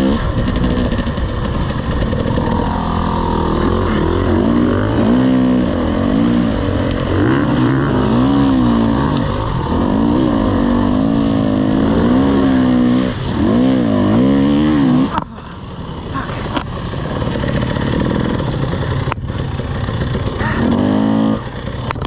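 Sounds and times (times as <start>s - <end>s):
racing engine revving: 0.0s - 22.0s.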